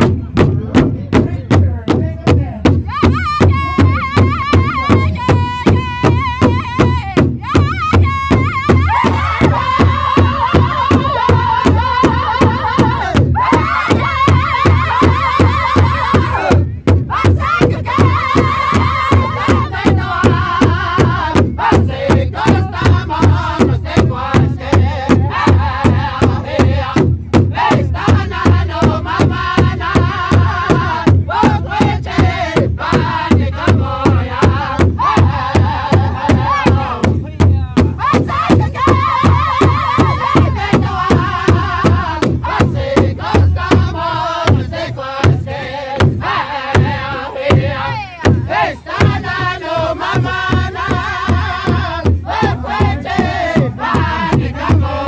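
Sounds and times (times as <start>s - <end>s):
large bass drum beating: 0.0s - 55.0s
men singing in high voices: 1.1s - 55.0s.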